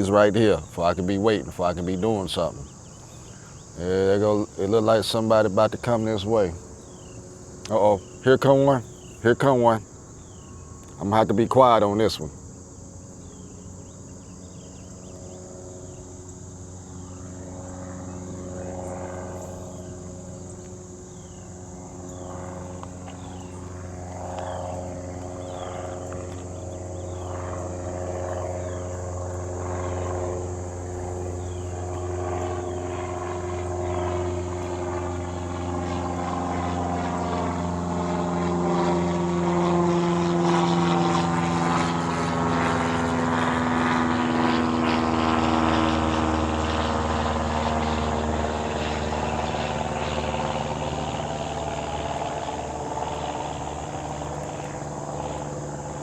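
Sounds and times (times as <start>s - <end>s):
airplane engine drone: 0.0s - 56.0s.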